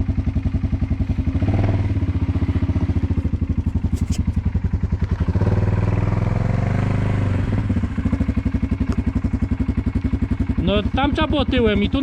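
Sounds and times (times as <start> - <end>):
quad engine idling and revving: 0.0 - 12.0.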